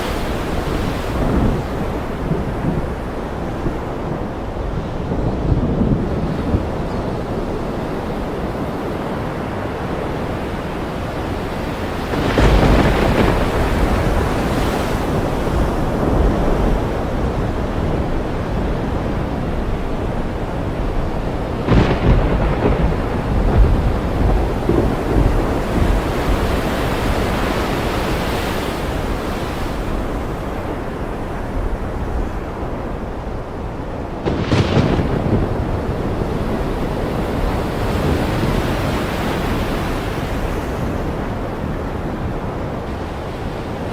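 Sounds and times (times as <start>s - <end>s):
thunder rumbling: 0.0s - 42.9s
ocean surf: 0.0s - 43.9s
rain: 0.0s - 43.9s.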